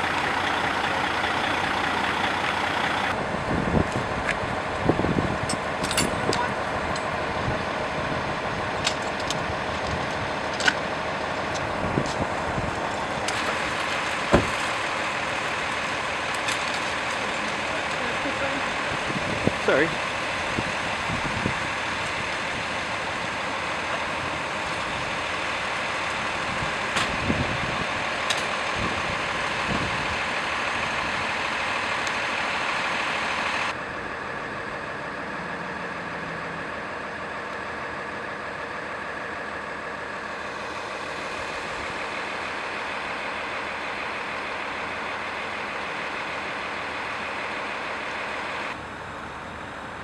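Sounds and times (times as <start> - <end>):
vehicle engines idling: 0.0 - 50.0.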